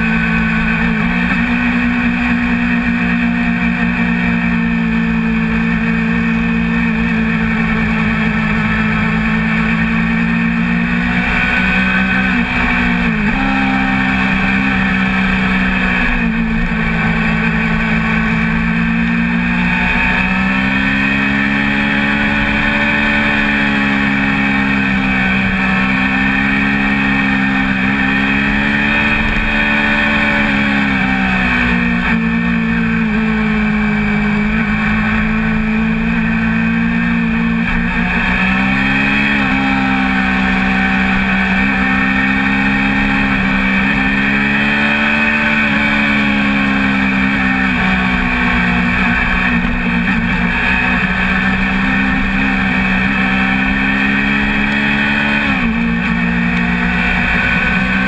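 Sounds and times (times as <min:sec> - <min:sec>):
motorcycle engine revving hard: 0:00.0 - 0:58.0.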